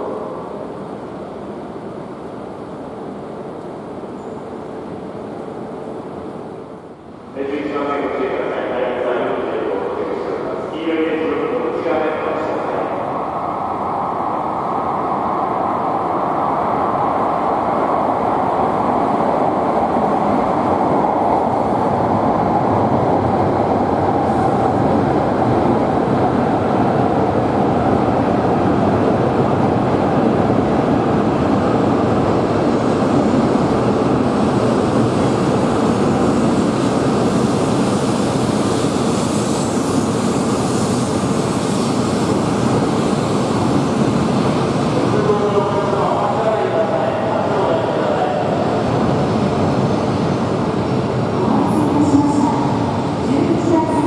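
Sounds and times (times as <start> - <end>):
train pulling into station: 0.0 - 54.0.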